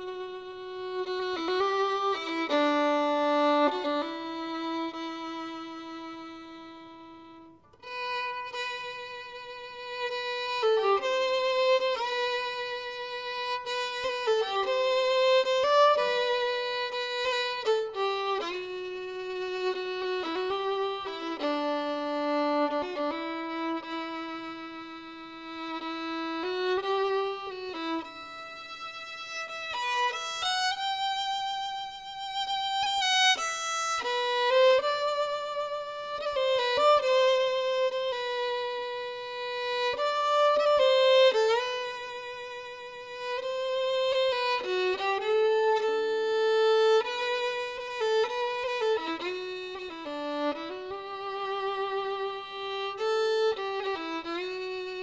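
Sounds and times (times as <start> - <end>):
slow violin melody: 0.0 - 55.0.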